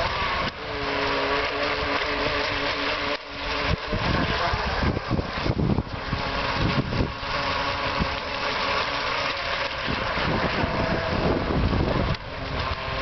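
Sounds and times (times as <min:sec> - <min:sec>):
electric motor whine: 0:00.0 - 0:13.0
wind rumbling on microphone: 0:00.0 - 0:13.0.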